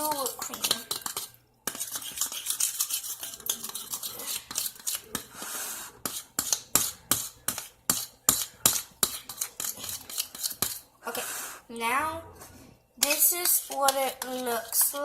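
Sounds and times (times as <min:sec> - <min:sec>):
utensil stirring slime in a bowl: 0:00.0 - 0:11.6, 0:13.0 - 0:15.0.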